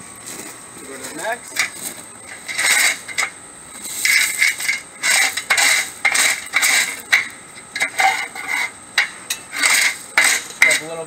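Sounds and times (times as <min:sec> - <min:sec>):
bar scraping through gravel: 0:00.3 - 0:11.0.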